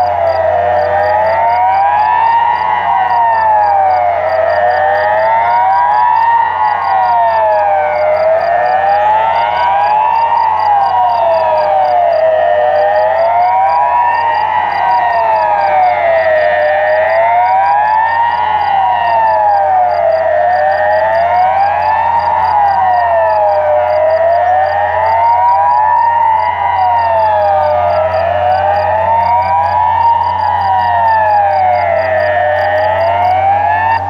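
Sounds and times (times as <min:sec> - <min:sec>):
rising and falling siren: 0:00.0 - 0:34.0.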